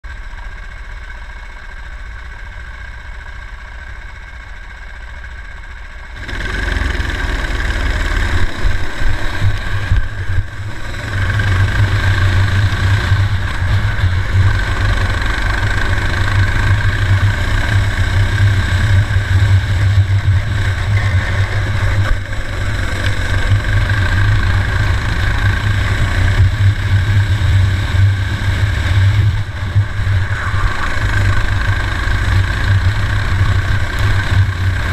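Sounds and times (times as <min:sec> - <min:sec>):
racing kart engine: 0:00.0 - 0:34.9.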